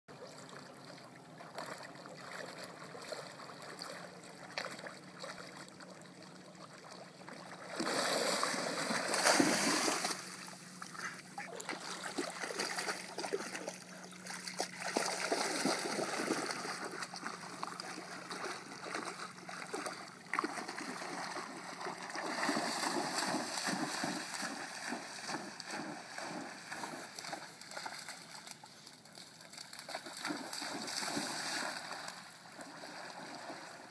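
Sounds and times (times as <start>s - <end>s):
dog splashing through water: 1.4s - 5.9s, 6.6s - 33.8s.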